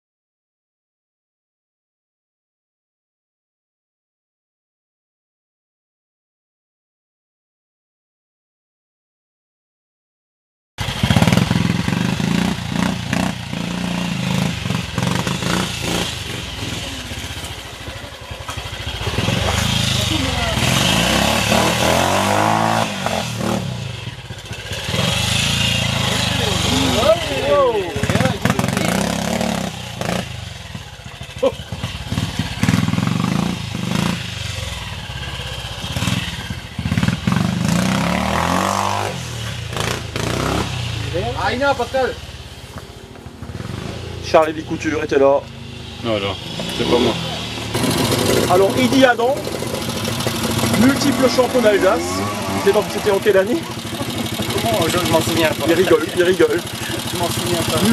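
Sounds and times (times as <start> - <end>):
motorcycle engine revving in bursts: 10.8 - 57.9.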